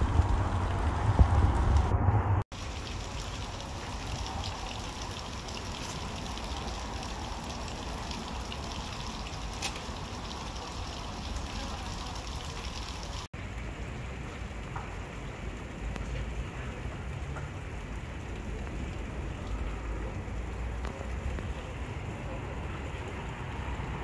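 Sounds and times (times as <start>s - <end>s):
steady rain hissing: 0.0s - 24.0s
faint raindrop ticks: 2.6s - 24.0s.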